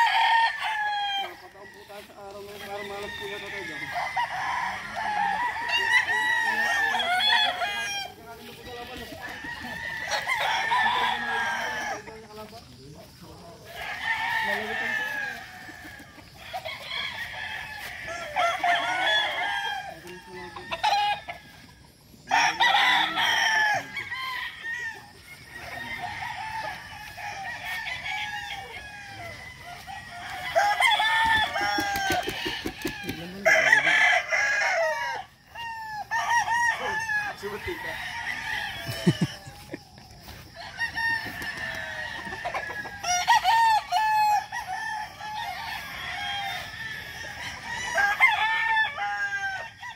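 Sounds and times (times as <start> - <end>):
roosters crowing: 0.0 - 49.9.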